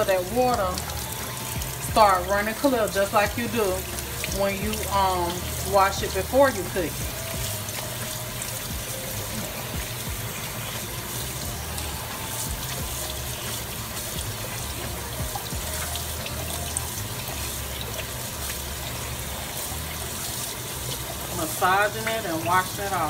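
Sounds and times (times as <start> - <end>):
faucet water splashing: 0.0 - 23.0
water down sink drain: 0.0 - 23.0.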